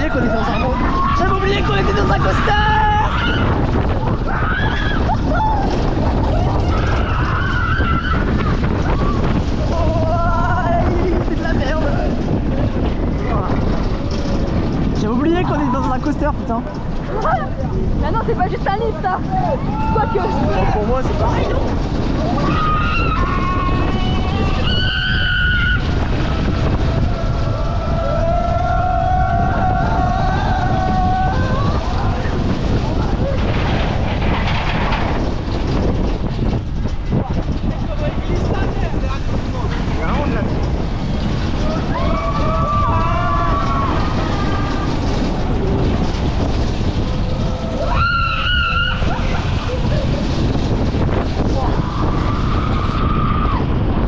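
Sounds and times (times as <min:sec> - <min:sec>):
faint shouting voices: 0:00.0 - 0:12.3, 0:13.2 - 0:33.6, 0:37.2 - 0:50.4
wind buffeting microphone: 0:00.0 - 0:54.0.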